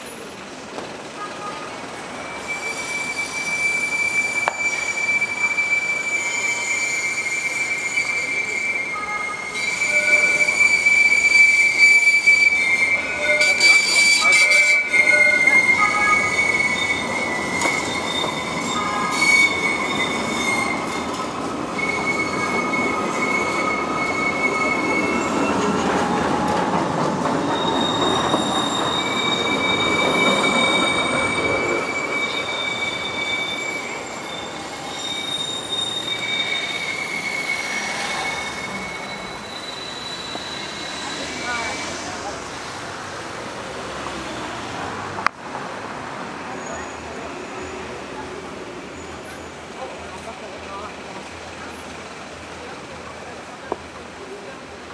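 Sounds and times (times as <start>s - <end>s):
tram rumbling past: 0.0s - 54.9s
tram wheels squealing on rails: 0.0s - 54.9s.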